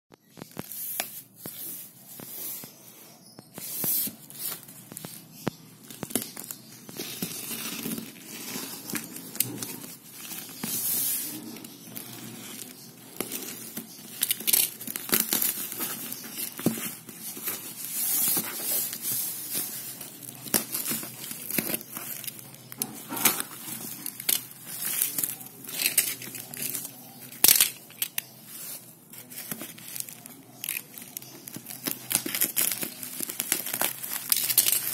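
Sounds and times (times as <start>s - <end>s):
wrapping crinkling and tearing: 3.6s - 34.9s.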